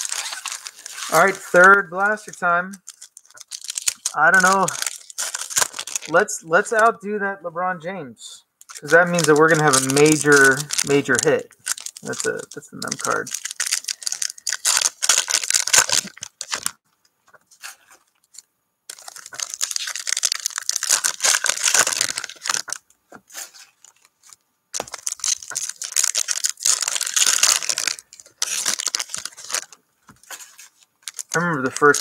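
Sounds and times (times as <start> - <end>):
foil wrapper crinkling and tearing: 0.0 - 6.2, 8.6 - 16.8, 17.6 - 22.8, 23.4 - 32.0.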